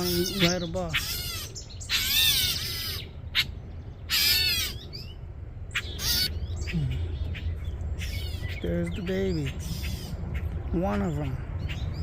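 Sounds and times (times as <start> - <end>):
bird harsh scolding squawks: 0.0 - 10.6.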